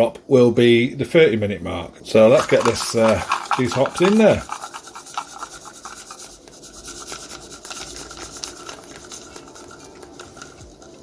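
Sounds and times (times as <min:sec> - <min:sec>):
pot boiling and bubbling: 0:02.0 - 0:11.0.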